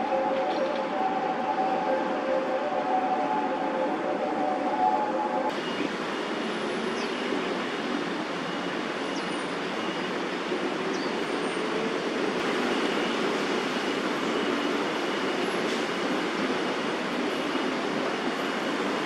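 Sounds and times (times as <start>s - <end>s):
city traffic roar: 0.0s - 19.0s.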